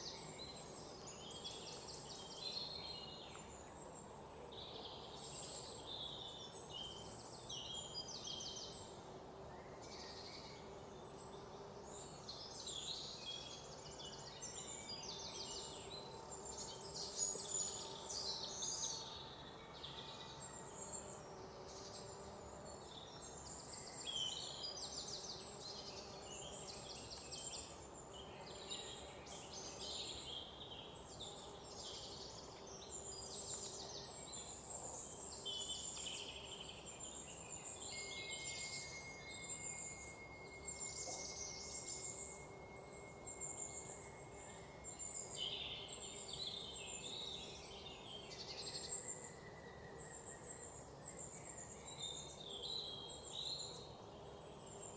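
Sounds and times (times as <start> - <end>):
faint steady background hiss: 0.0 - 54.9
wild birds singing: 0.0 - 54.9.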